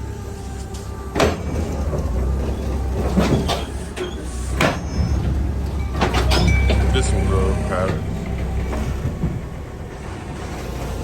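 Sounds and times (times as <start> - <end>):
low truck engine rumble: 0.0 - 11.0
pallets clanking and banging: 0.5 - 11.0.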